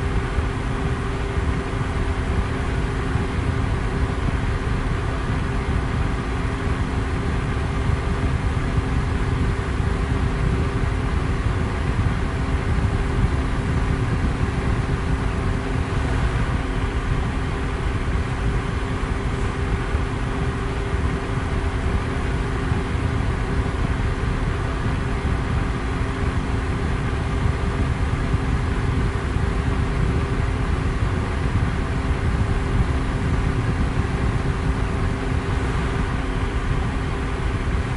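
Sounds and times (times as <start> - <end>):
electric fan air rush: 0.0 - 37.9
faint motor hum: 0.0 - 37.9.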